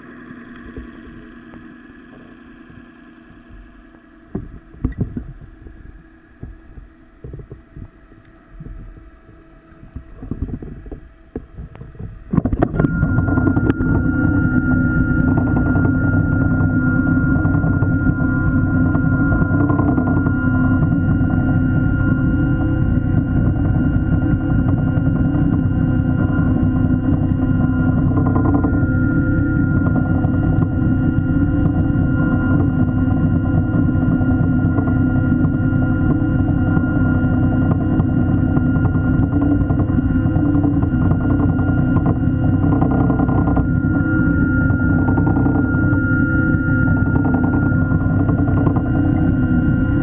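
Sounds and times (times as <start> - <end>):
electric motor whine underwater: 0.0 - 50.0.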